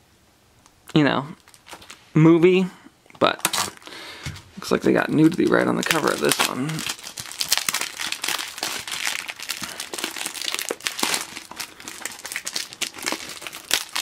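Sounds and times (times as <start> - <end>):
plastic bag crinkling: 1.4 - 2.1, 3.2 - 14.0.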